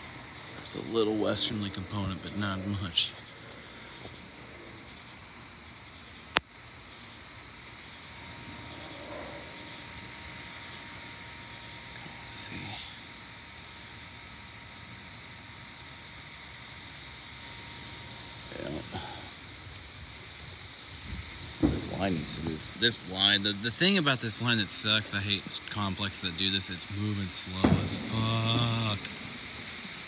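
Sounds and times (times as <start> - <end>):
high insect buzz: 0.0 - 30.0
night insects chirping: 0.0 - 30.0.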